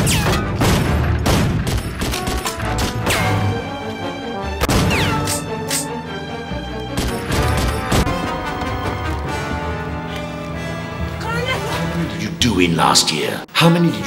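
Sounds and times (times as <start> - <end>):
loud dramatic music: 0.0 - 13.2.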